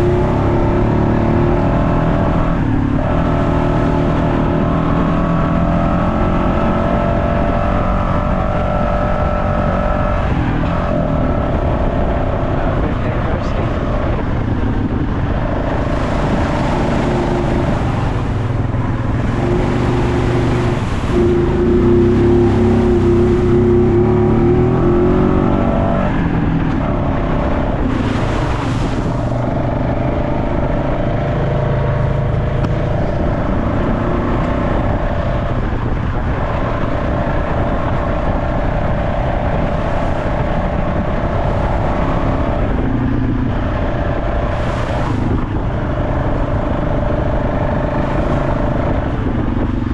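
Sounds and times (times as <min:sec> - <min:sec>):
vehicle engine revving: 0:00.0 - 0:49.9.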